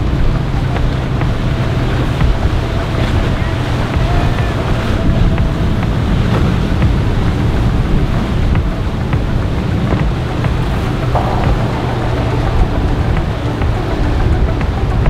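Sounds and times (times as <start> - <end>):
bow wave rushing through water: 0.0 - 15.0
wind on microphone: 0.0 - 15.0
yacht engines droning: 0.0 - 15.0.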